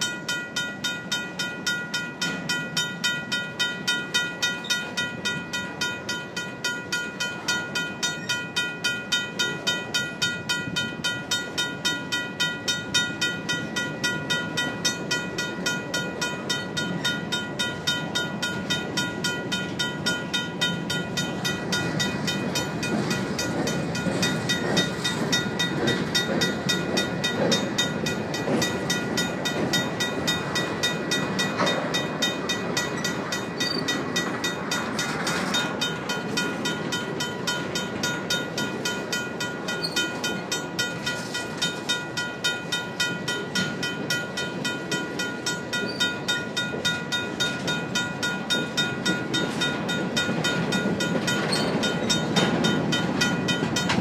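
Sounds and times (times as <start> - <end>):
crossing bell ringing: 0.0 - 54.0
train wheels clacking on rails: 0.0 - 54.0.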